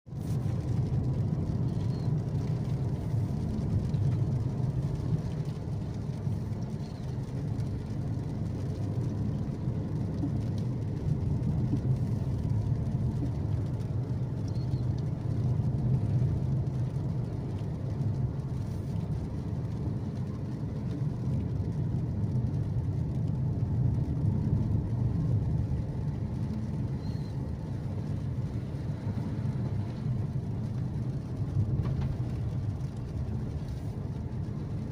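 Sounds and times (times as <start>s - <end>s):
car engine rumbling: 0.0s - 34.9s
tyres on road: 0.1s - 34.9s.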